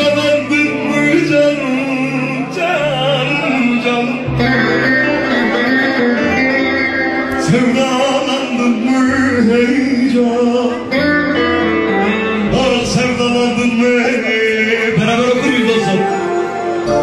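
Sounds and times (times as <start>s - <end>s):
keyboard and violin melody: 0.0s - 17.0s
man singing: 0.0s - 17.0s.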